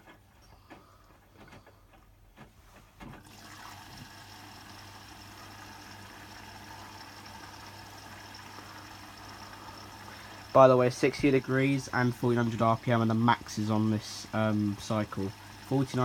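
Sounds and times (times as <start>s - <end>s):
water rushing into washing machine: 3.0s - 16.0s.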